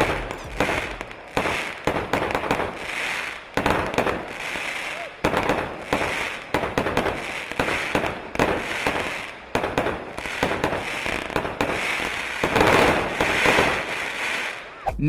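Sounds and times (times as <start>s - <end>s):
firework crackle: 0.0s - 14.9s
fireworks shots and bursts: 0.0s - 15.0s.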